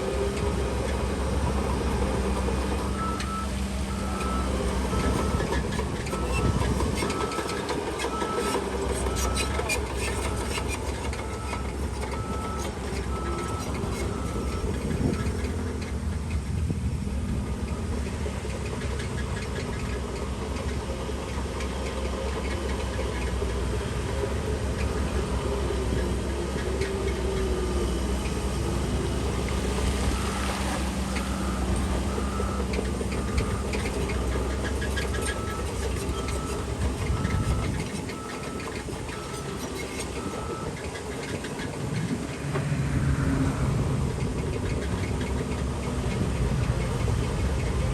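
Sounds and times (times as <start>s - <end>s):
bulldozer diesel engine working: 0.0s - 47.9s.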